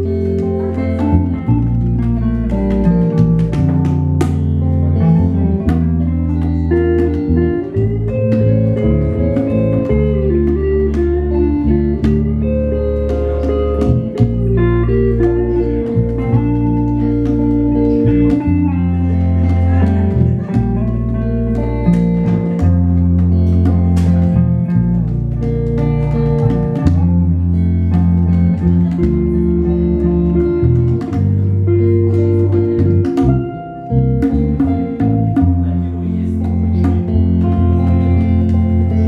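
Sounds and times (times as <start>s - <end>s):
stepping bass line: 0.0s - 35.9s
blues guitar melody: 0.0s - 39.0s.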